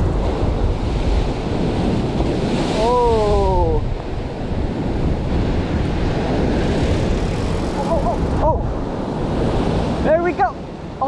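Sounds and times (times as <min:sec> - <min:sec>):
surf breaking on rocks: 0:00.0 - 0:11.0
wind buffeting microphone: 0:00.0 - 0:11.0.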